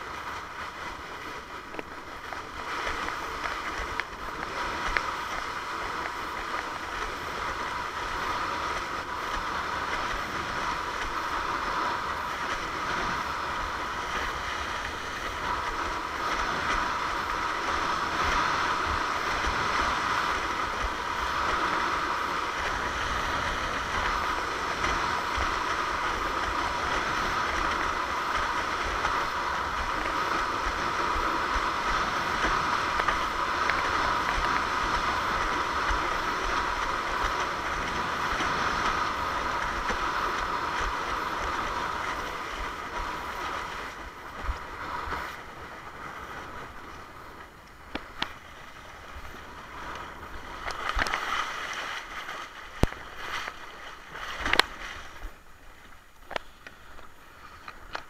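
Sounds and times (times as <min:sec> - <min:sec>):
wind buffeting microphone: 0:00.0 - 0:51.4
water rushing along a board hull: 0:00.0 - 0:58.0.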